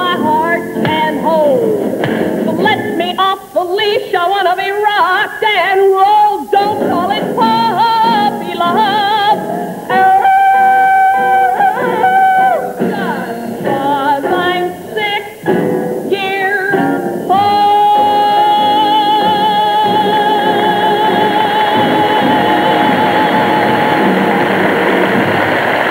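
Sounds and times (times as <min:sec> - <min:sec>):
musical accompaniment: 0:00.0 - 0:03.6, 0:06.5 - 0:25.9
woman singing yodel-like runs: 0:00.0 - 0:15.4, 0:16.1 - 0:24.4.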